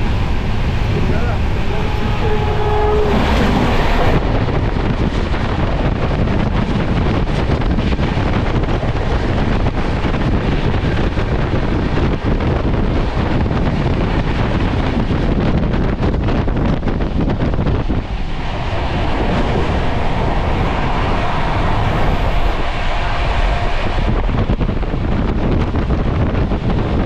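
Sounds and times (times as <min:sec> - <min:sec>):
train wheels rumbling on track: 0:00.0 - 0:27.0
wind buffeting microphone: 0:00.0 - 0:27.0.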